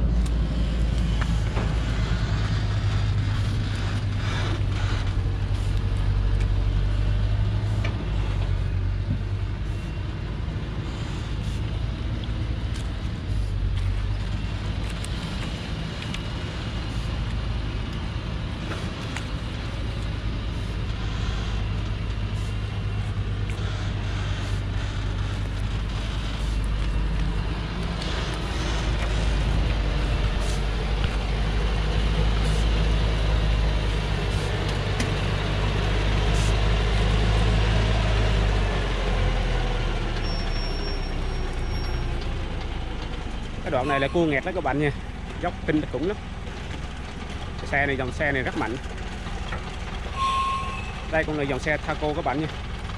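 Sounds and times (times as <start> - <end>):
truck diesel engine running: 0.0 - 52.9.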